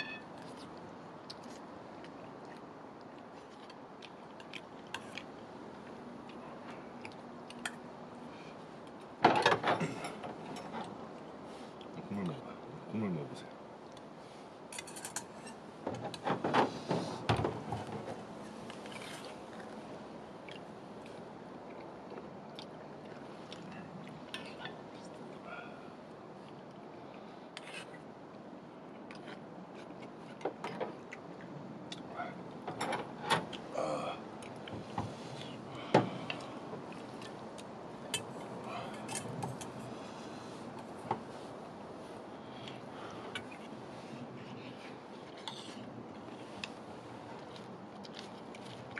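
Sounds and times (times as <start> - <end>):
steady low hiss: 0.0 - 48.9.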